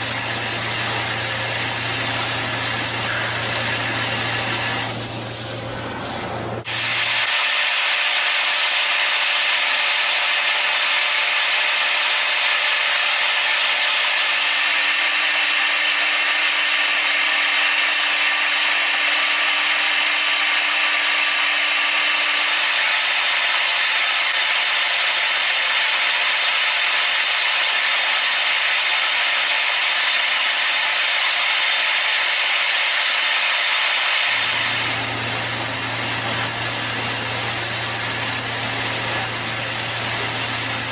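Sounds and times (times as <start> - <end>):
machine tool grinding hiss: 0.0 - 40.9.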